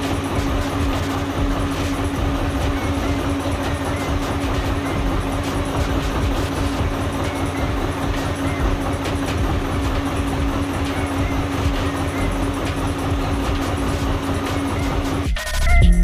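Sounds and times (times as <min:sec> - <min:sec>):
machine running: 0:00.0 - 0:16.0.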